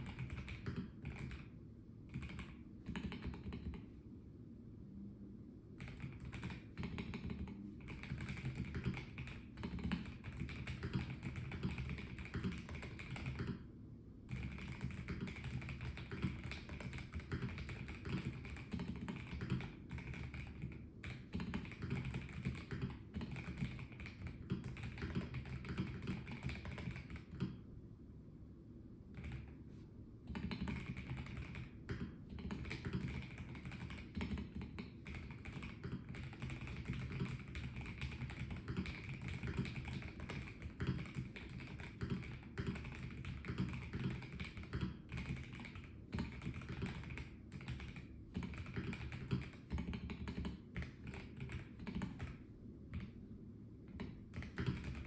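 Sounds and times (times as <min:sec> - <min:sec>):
mechanical keyboard typing: 0:00.0 - 0:01.5, 0:02.1 - 0:03.9, 0:05.8 - 0:13.6, 0:14.3 - 0:27.6, 0:29.1 - 0:29.6, 0:30.3 - 0:53.2, 0:53.9 - 0:55.0.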